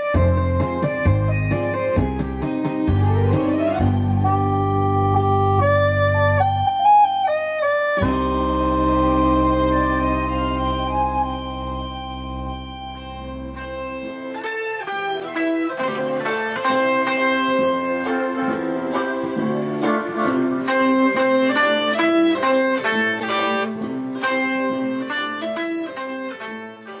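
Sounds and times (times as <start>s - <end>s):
enka band music: 0.0s - 27.0s.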